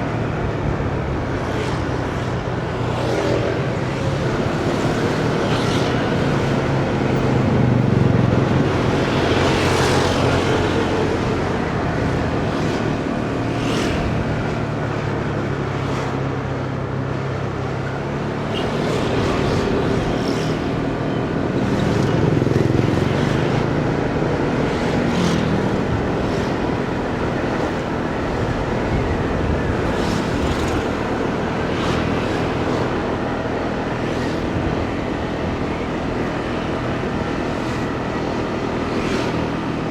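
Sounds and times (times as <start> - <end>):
passing traffic: 0.0 - 39.9
road noise: 0.0 - 39.9.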